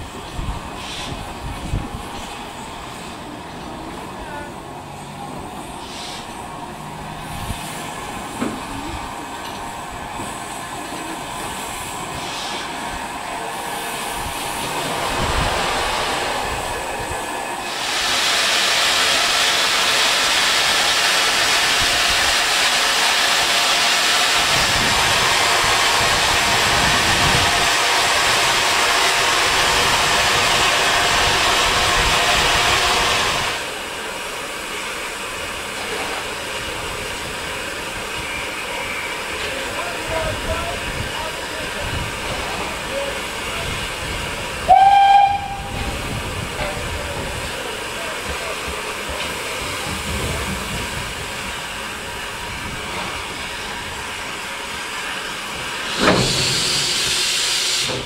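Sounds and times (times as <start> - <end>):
railway noise: 0.0 - 58.0
loud hiss of escaping steam: 0.1 - 3.7, 5.5 - 9.1, 9.7 - 58.0.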